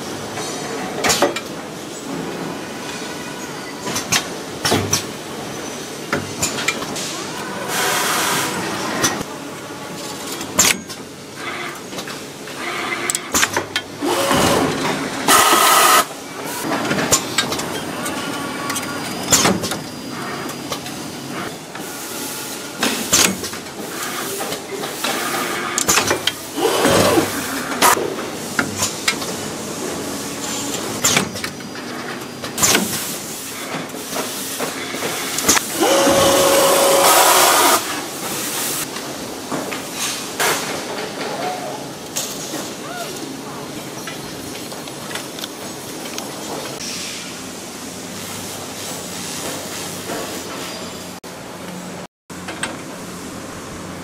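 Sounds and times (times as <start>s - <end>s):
factory machinery running: 0.0s - 54.0s.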